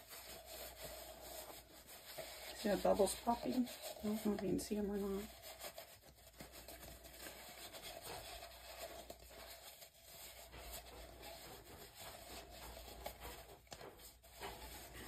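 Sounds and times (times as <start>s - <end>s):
faint rubbing and handling: 0.0s - 15.0s.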